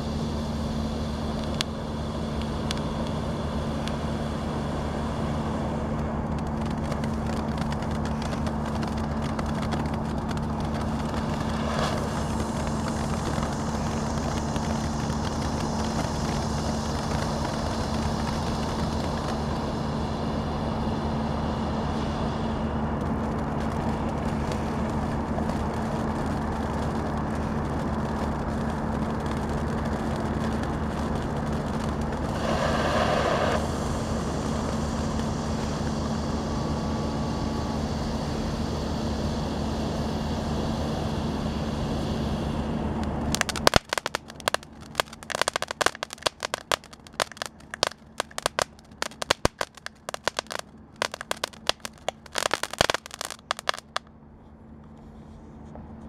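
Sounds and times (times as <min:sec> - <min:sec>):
firework fountain hissing: 0:00.0 - 0:54.1
crackling firework pops: 0:00.1 - 0:40.6, 0:43.0 - 0:54.1.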